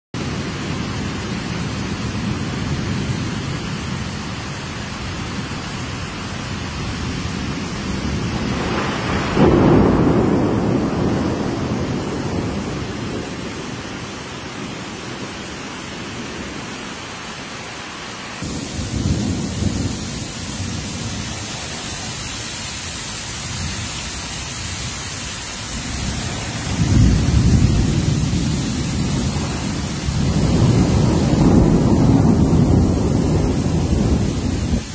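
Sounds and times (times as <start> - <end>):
heavy rain pouring: 0.2 - 34.9
thunder rumbling: 5.0 - 16.8, 18.4 - 34.9.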